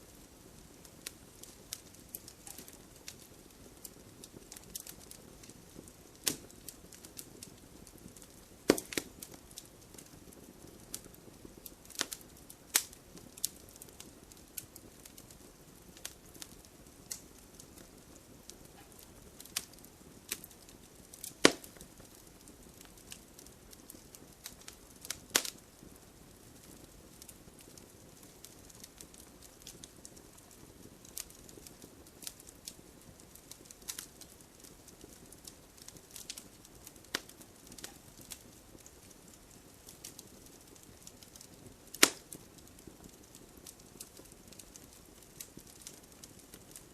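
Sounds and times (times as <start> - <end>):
burning logs crackling: 0.0 - 46.9
faint hiss: 0.0 - 46.9
fire pops and snaps: 0.0 - 46.9.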